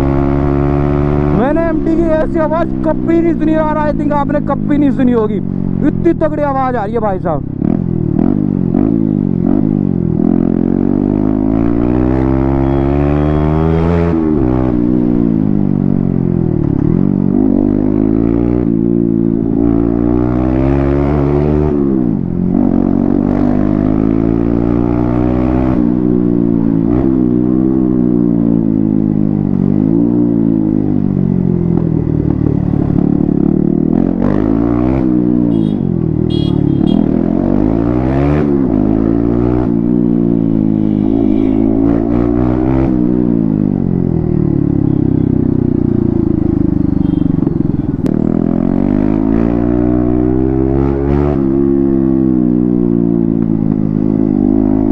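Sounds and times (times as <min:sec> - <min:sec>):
unmuffled motorcycle engine revving: 0:00.0 - 0:54.9.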